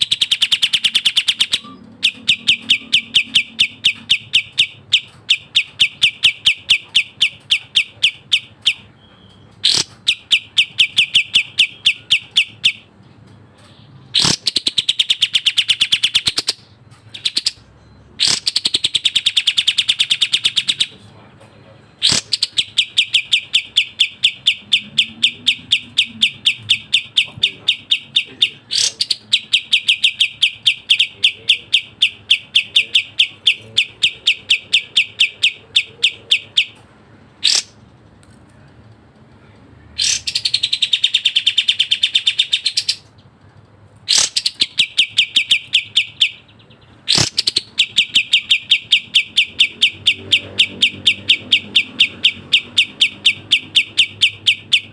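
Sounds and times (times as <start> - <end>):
bulbul singing: 0.0 - 13.0, 13.6 - 37.9, 40.0 - 43.4, 44.1 - 54.9.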